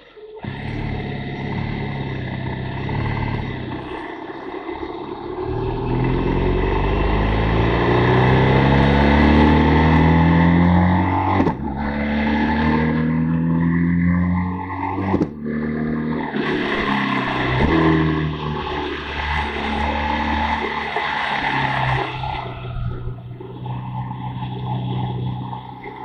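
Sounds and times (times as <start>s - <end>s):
motorcycle engine revving: 0.4s - 26.0s.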